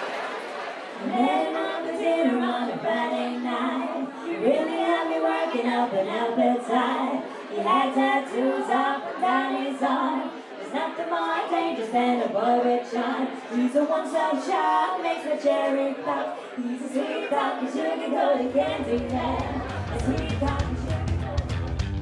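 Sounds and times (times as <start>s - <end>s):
female vocal trio singing: 1.0s - 21.5s.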